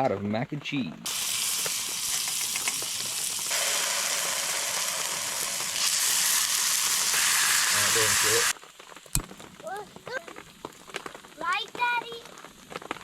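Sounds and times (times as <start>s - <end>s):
meat sizzling in a pan: 1.1s - 13.0s.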